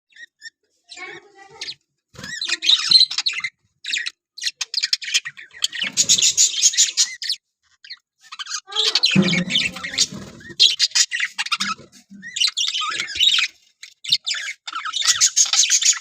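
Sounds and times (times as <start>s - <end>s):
budgerigars chirping and warbling: 0.1s - 16.0s.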